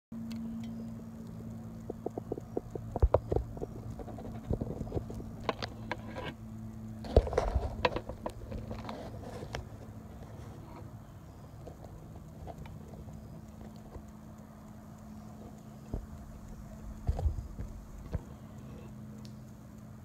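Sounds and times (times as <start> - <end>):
sharp clicks: 0.2 - 8.9, 9.5 - 20.0
low hum: 0.2 - 20.0.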